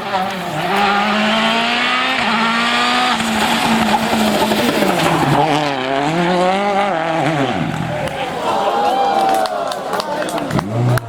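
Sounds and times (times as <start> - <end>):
rally car engine revving high: 0.0 - 8.4, 10.4 - 11.0.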